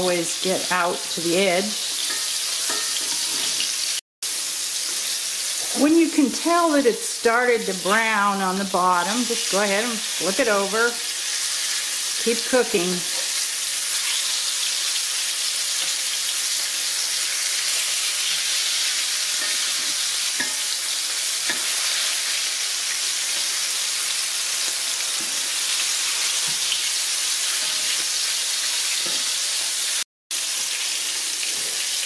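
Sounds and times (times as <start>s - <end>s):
fish frying sizzle: 0.0s - 32.0s.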